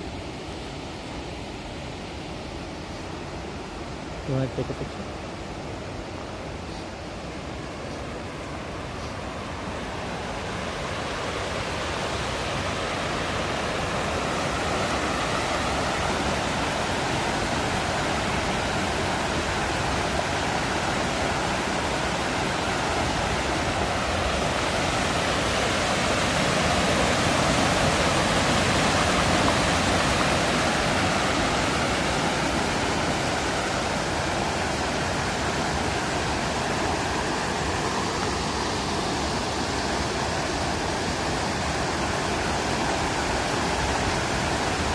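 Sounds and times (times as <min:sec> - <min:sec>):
water rushing over weir: 0:00.0 - 0:44.9.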